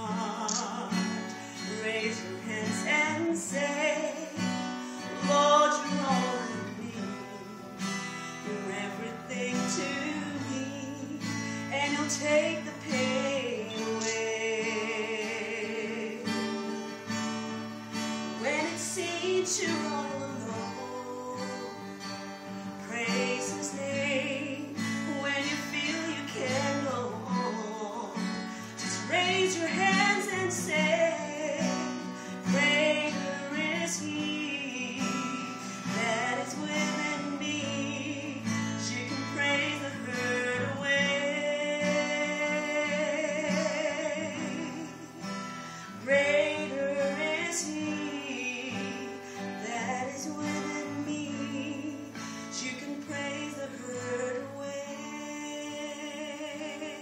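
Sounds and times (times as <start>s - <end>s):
guitar accompaniment: 0.0s - 57.0s
woman singing slow song: 0.0s - 57.0s.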